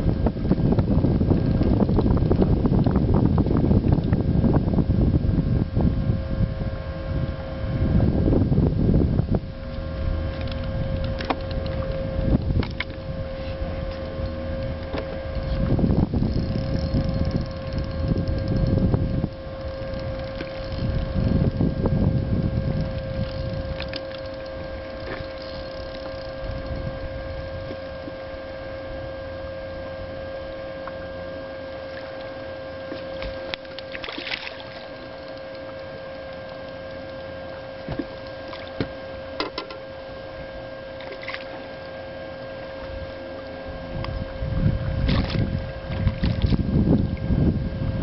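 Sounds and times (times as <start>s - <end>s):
electric motor whine: 0.0s - 48.0s
wind rumble on microphone: 0.0s - 48.0s.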